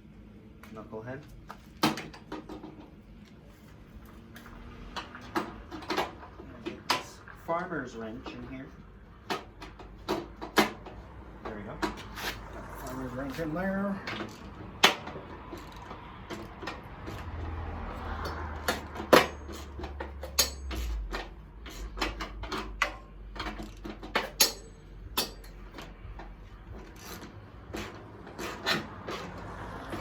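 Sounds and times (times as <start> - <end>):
hand tools clanking on metal: 5.0 - 30.0.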